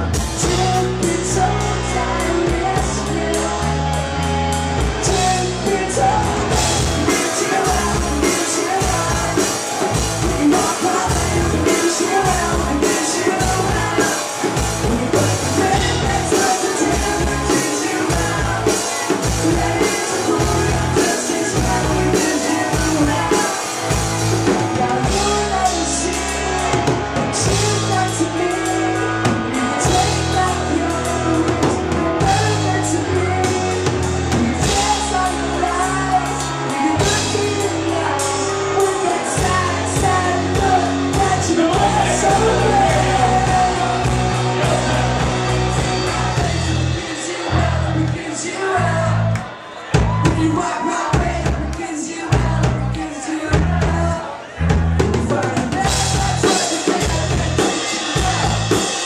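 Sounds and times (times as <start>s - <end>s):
bass notes: 0.0s - 50.6s, 51.2s - 58.9s
drums: 0.0s - 59.0s
person singing: 0.0s - 59.0s.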